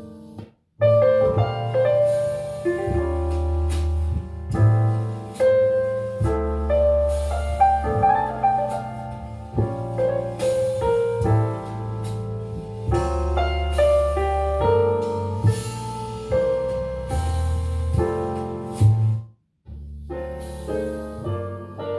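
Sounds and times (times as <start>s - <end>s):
piano music through speaker: 0.0s - 19.2s, 20.1s - 21.9s.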